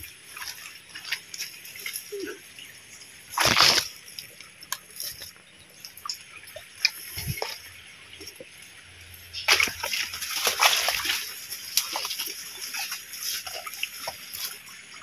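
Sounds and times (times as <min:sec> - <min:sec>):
water splashing in creek: 0:00.0 - 0:15.0.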